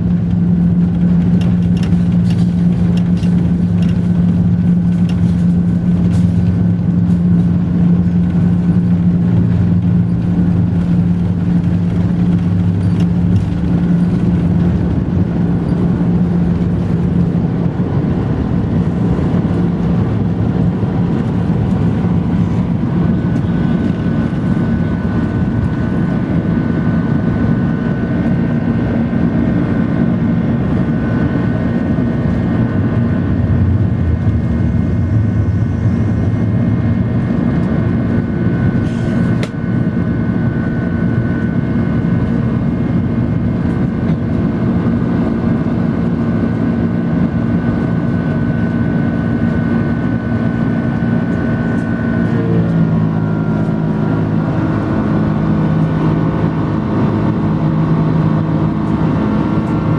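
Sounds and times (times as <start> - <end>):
high engine whine: 0.0 - 59.9
jet engines roaring in cabin: 0.0 - 59.9.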